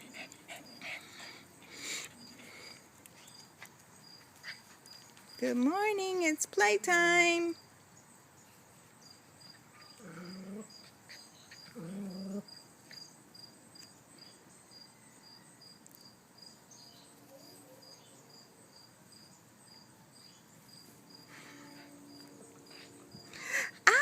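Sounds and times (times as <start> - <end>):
cricket chirping: 0.0 - 5.4, 7.5 - 24.0.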